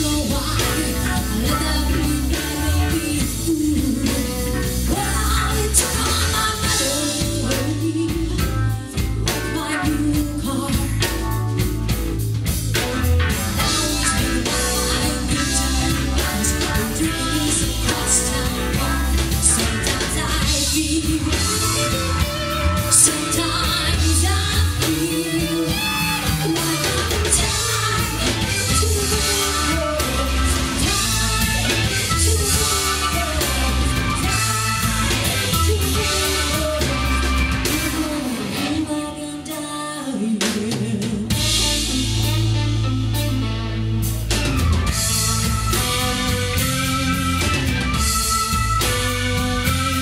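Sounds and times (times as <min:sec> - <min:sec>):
woman singing: 0:00.0 - 0:12.0, 0:13.2 - 0:42.8
live rock band playing: 0:00.0 - 0:50.0.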